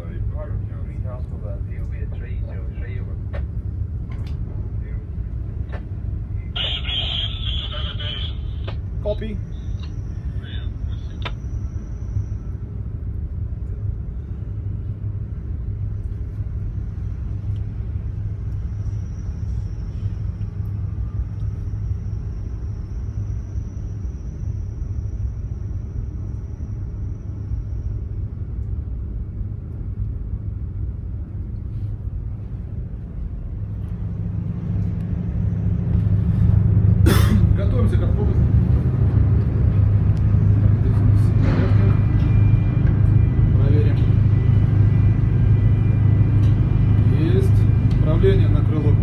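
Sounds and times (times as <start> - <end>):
heavy diesel machinery rumbling: 0.0 - 49.0.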